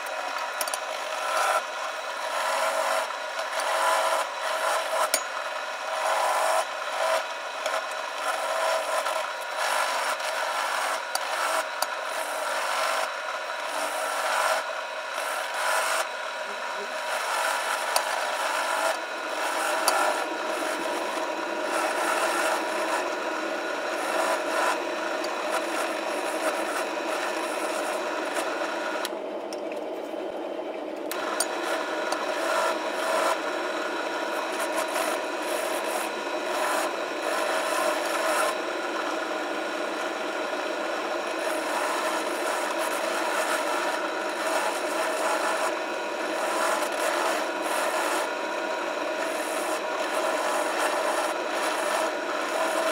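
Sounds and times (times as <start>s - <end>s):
drill press motor hum: 0.0s - 52.9s.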